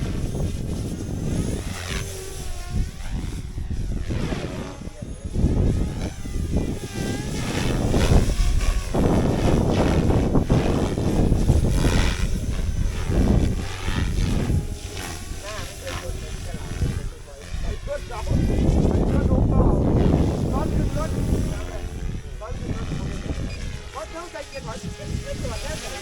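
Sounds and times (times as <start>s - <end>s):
rc helicopter motor whine: 0.0s - 26.0s
wind rumbling on microphone: 0.0s - 26.0s.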